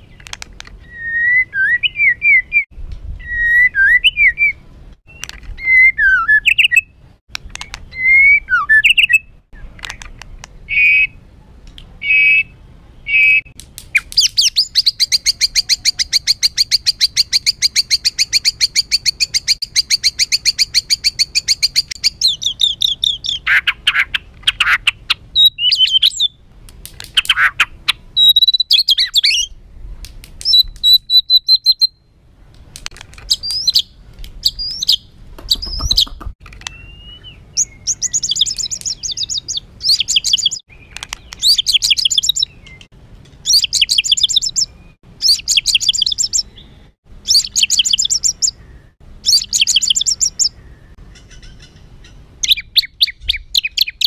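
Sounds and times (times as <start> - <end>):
bird singing: 0.0 - 11.3, 12.0 - 26.5, 27.2 - 29.6, 30.5 - 32.2, 33.3 - 54.0.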